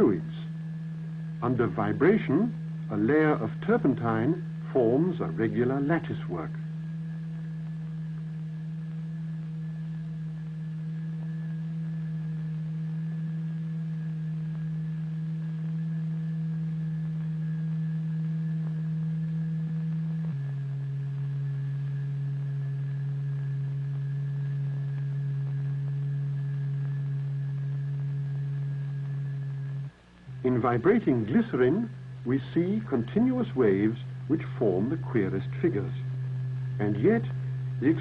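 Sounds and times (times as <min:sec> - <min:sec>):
low electronic hum tone: 0:00.0 - 0:38.0.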